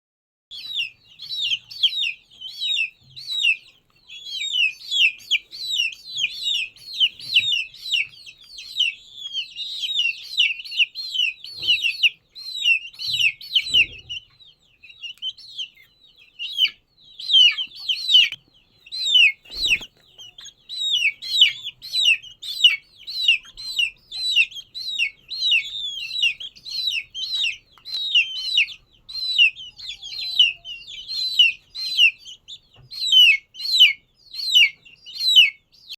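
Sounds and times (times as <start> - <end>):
baby chicks peeping: 0.5 - 35.9.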